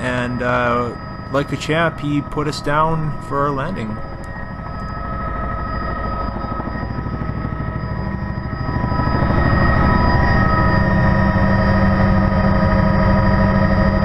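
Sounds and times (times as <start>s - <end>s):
helicopter rotor blades beating: 0.0s - 14.0s
turbine whine: 0.0s - 14.0s.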